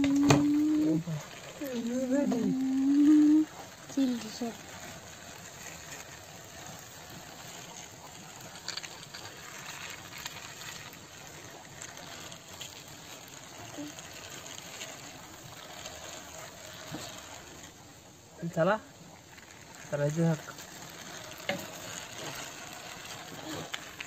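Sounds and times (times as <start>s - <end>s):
plastic wheels rolling on concrete: 0.0s - 24.0s.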